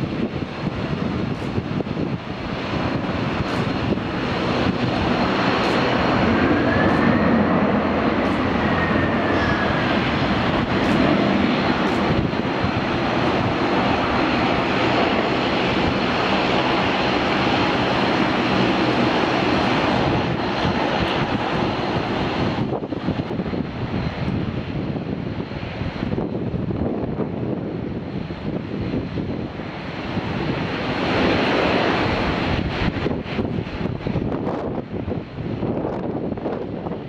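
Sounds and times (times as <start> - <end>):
jet engine rush: 0.0 - 37.0.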